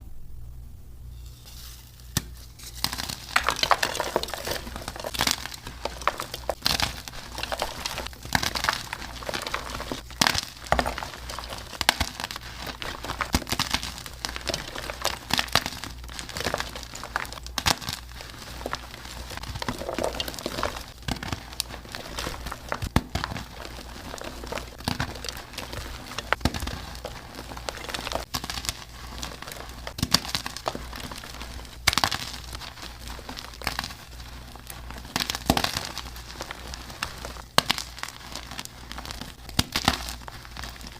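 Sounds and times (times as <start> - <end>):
chalk crunching and cracking: 1.2 - 40.9.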